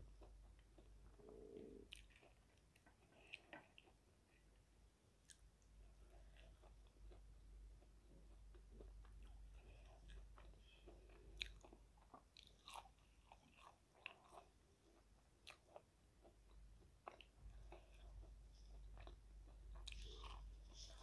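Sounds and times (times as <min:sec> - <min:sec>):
crunching and chewing fried food: 0:00.0 - 0:21.0.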